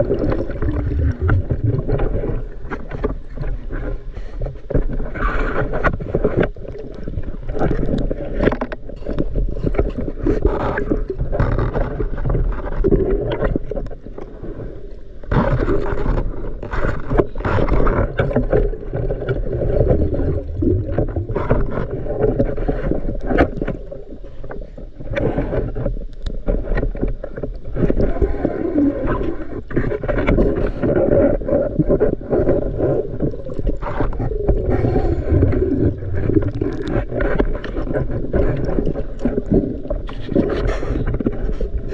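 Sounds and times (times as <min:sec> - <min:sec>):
underwater sloshing and bubbling: 0:00.0 - 0:41.9.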